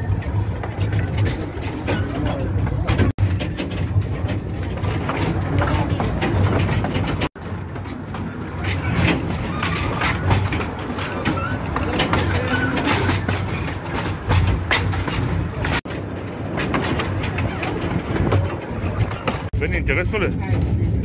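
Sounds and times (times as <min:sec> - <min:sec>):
steam train rumbling and rattling: 0:00.0 - 0:21.0
wheels clicking on rails: 0:00.0 - 0:21.0.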